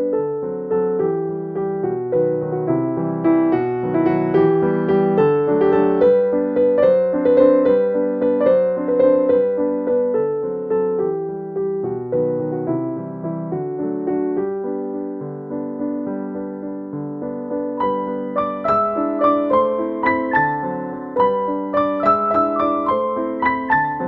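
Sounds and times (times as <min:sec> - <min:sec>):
background piano music: 0:00.0 - 0:24.0.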